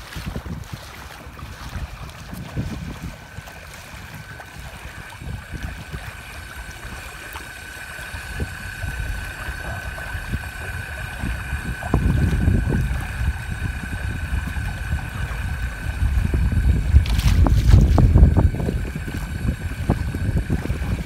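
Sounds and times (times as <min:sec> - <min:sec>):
water rushing along a hull: 0:00.0 - 0:21.0
wind buffeting the microphone: 0:00.0 - 0:21.0
electric motor whine: 0:03.6 - 0:21.0.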